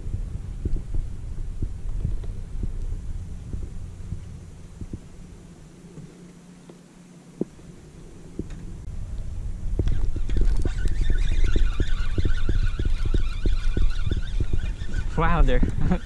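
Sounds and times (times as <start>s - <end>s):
wind buffeting microphone: 0.0s - 6.3s, 7.3s - 16.0s.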